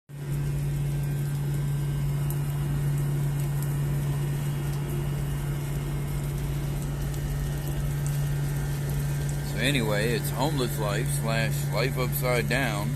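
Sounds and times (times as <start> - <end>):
low mechanical hum: 0.1 - 12.9
rain: 0.1 - 12.9
raindrop ticks: 0.2 - 12.9.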